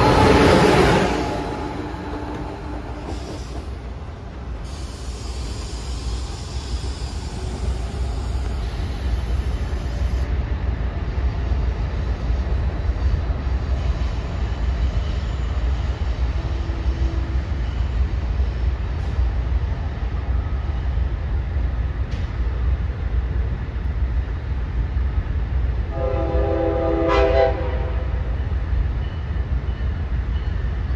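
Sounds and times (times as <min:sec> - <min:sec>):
train rumbling on tracks: 0:00.0 - 0:30.9.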